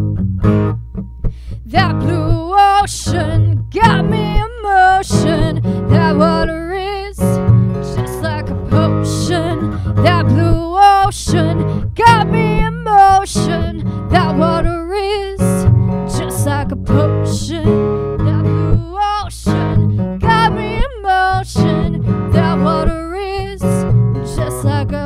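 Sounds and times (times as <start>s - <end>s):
strummed acoustic guitar: 0.0s - 25.0s
woman singing with vibrato: 1.6s - 25.0s.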